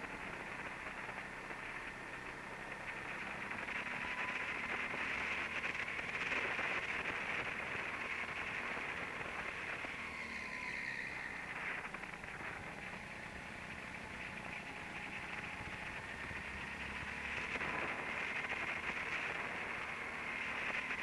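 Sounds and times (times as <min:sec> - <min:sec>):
go-kart engine: 0:00.0 - 0:21.0.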